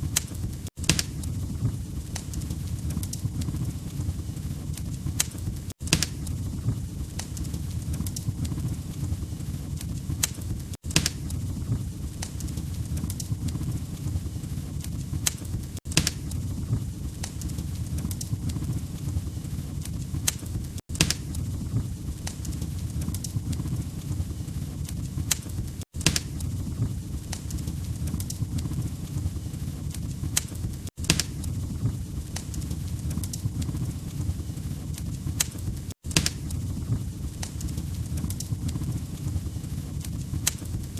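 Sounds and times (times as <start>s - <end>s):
log fire crackling and popping: 0.0s - 40.9s.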